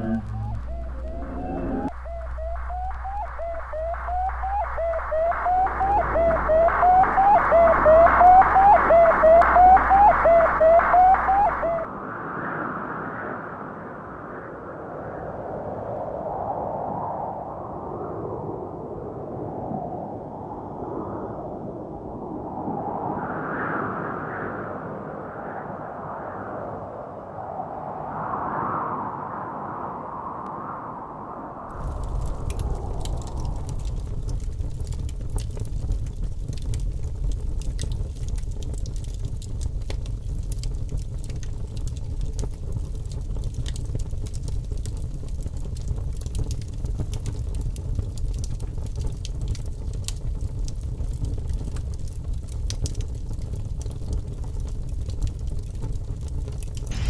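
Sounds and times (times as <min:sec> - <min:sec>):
low rumble with fine crackle: 0:00.0 - 0:57.0.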